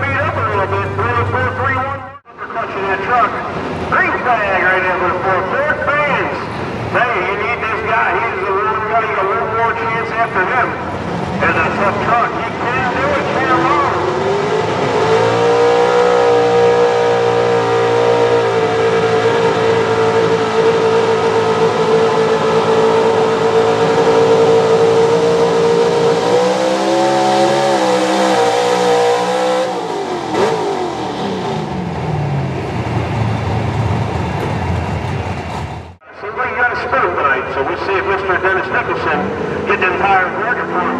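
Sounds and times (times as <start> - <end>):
pulling truck engine revving: 0.0 - 36.0.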